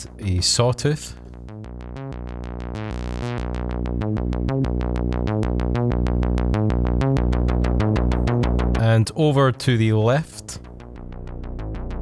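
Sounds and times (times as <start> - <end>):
synth bass line: 1.0 - 9.6, 10.6 - 12.0.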